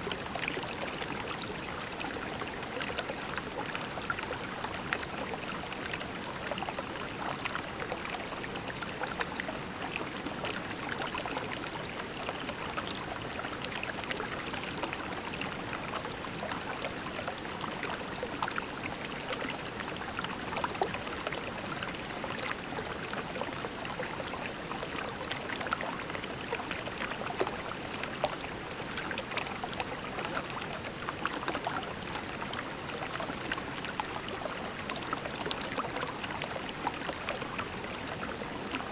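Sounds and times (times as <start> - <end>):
creek water flowing over pebbles: 0.0 - 38.9.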